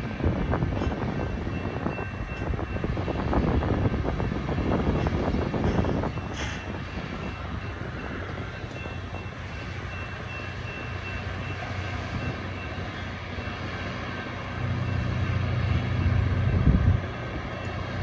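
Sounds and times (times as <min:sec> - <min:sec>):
locomotive engine drone: 0:00.0 - 0:18.0.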